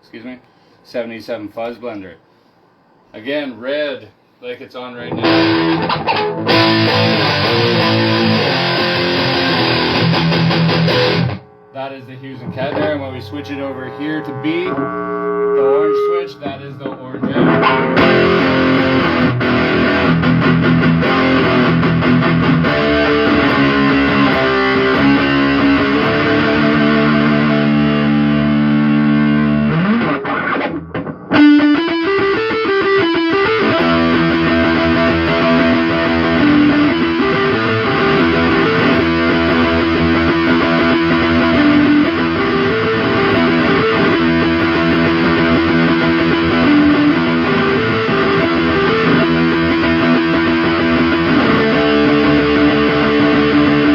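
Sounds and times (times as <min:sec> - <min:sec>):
distorted electric guitar riffing: 0:05.0 - 0:53.9.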